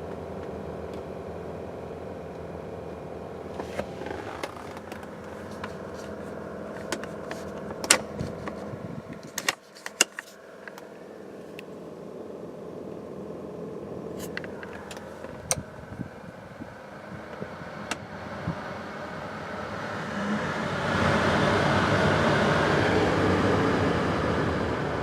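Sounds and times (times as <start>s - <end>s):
blower fan rushing air: 0.0s - 25.0s.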